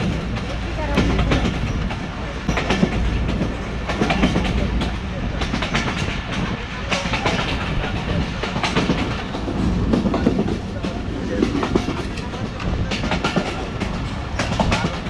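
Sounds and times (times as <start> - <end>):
train rumbling: 0.0 - 15.0
wheels clattering on rails: 0.0 - 15.0.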